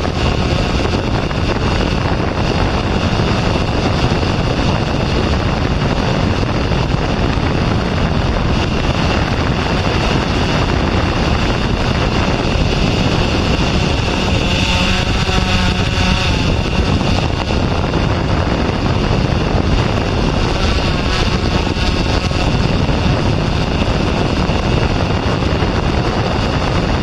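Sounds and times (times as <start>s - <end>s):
drone propellers whirring: 0.0s - 27.0s
high motor whine: 0.0s - 27.0s.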